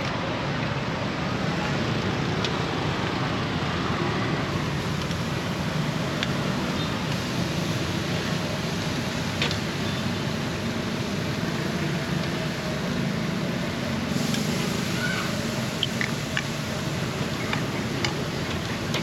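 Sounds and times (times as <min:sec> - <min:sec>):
traffic: 0:00.0 - 0:19.0.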